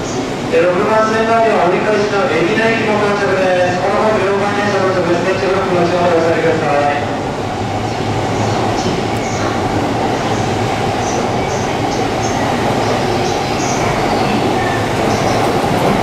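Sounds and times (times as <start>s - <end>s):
electric train rolling rumble: 0.0s - 16.0s.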